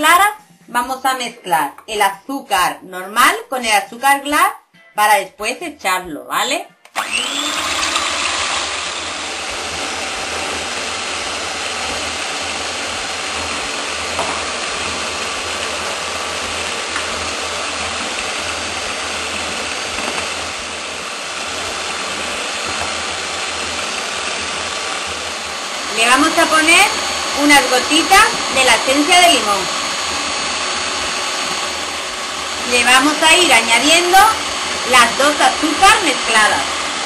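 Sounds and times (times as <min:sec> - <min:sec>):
stand mixer whipping: 0:06.9 - 0:37.0.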